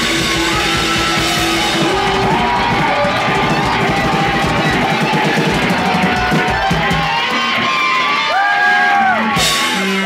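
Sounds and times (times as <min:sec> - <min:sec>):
drum kit playing: 0:00.0 - 0:10.0
electric guitar: 0:00.0 - 0:10.0.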